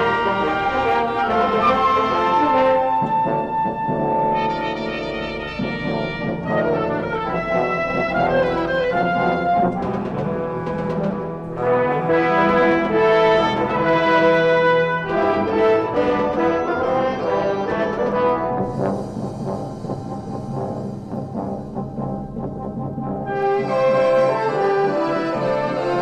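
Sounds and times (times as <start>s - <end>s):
orchestral brass chords: 0.0s - 26.0s.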